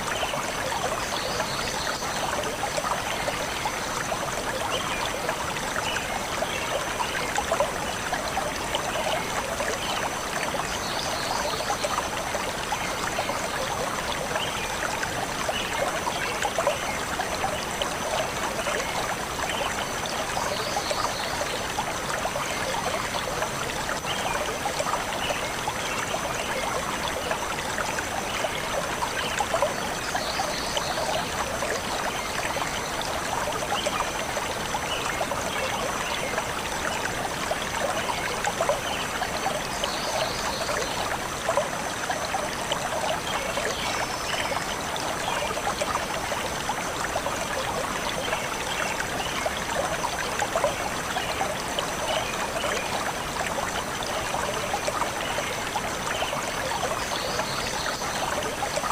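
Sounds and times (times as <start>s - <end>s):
stream flowing and gurgling: 0.0s - 58.9s.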